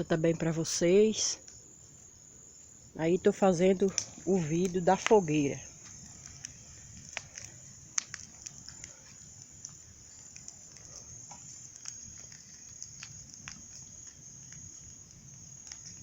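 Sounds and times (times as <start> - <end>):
bonfire crackling and popping: 0.0 - 16.0
crickets chirping: 0.0 - 16.0.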